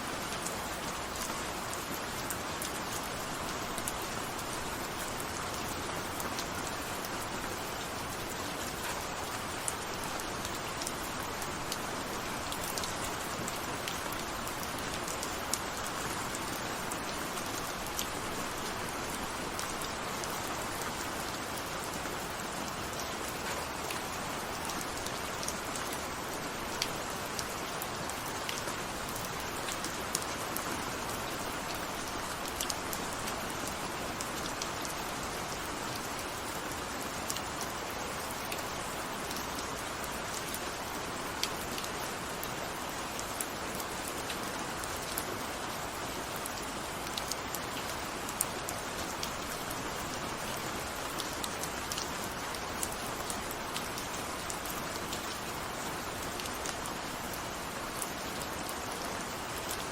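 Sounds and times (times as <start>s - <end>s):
steady rain hiss: 0.0s - 59.9s
raindrops ticking on a surface: 0.1s - 59.9s.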